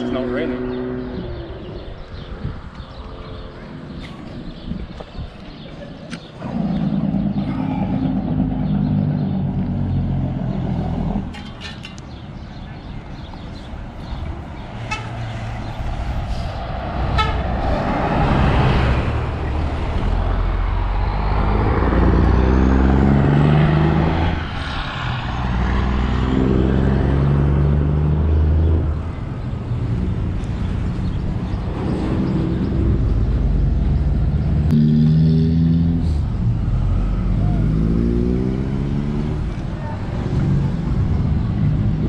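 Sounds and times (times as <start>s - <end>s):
highway traffic passing: 0.0s - 42.0s.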